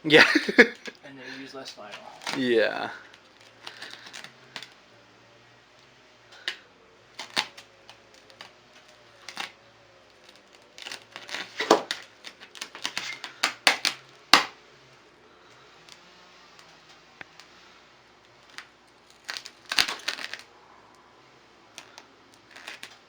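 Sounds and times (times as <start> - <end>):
plastic film clicks and crackles: 0.6 - 4.9, 5.7 - 14.6, 15.4 - 20.5, 21.2 - 23.0.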